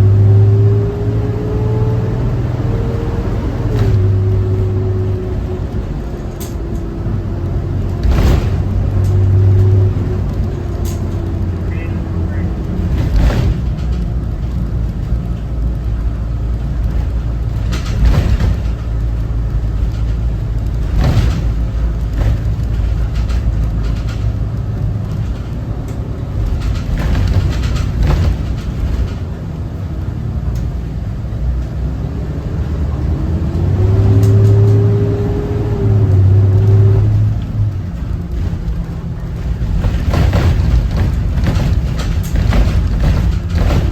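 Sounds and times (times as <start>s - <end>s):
bus diesel engine running: 0.0s - 43.9s
knocks and rattles: 2.3s - 31.8s, 33.4s - 43.9s.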